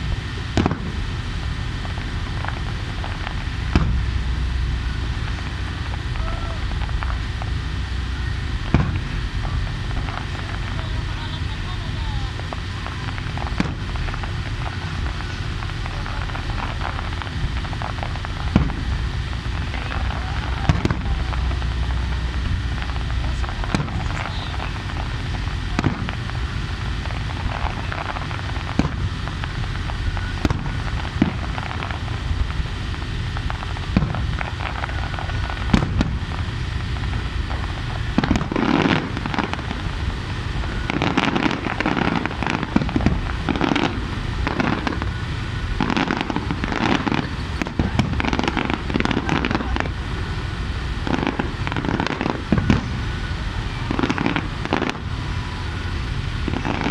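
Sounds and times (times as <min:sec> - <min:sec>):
rapid firework pops: 0:00.0 - 0:07.8, 0:08.5 - 0:56.9
distant firework shells bursting: 0:00.0 - 0:56.9
low rumble: 0:00.0 - 0:56.9.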